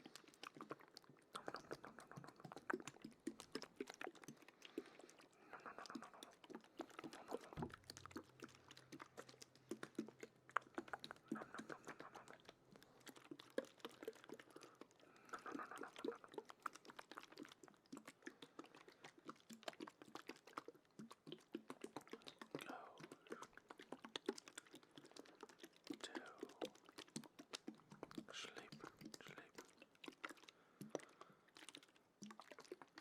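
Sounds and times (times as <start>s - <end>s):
wet mouth clicks and smacks: 0.0s - 33.0s.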